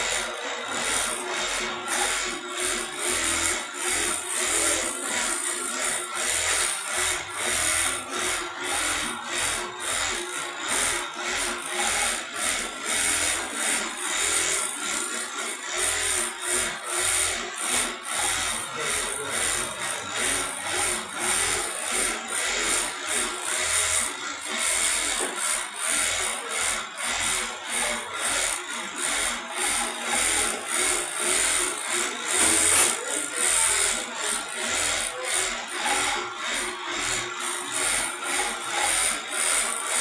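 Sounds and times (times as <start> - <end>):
sewing machine stitching: 0.0 - 40.0.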